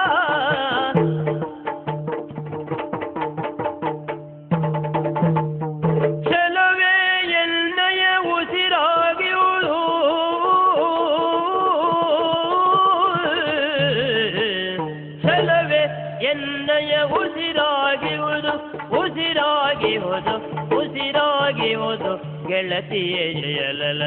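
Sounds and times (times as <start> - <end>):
fast drum strokes: 0.0 - 24.0.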